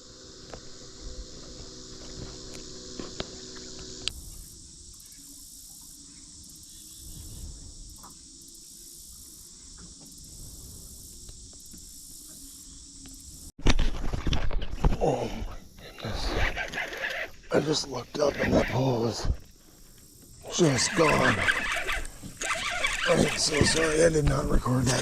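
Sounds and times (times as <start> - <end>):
high pulsing insect trill: 0.0 - 25.0
insect chorus: 0.0 - 25.0.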